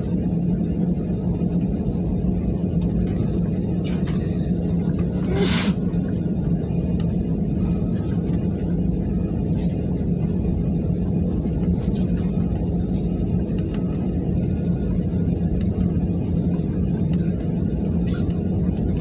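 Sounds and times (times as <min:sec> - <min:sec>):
jet cabin rumble and hum: 0:00.0 - 0:19.0.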